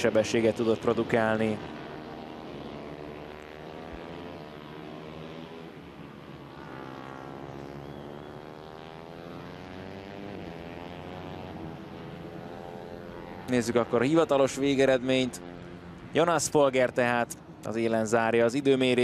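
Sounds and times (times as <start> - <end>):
racing motorcycle engine: 0.0 - 19.0.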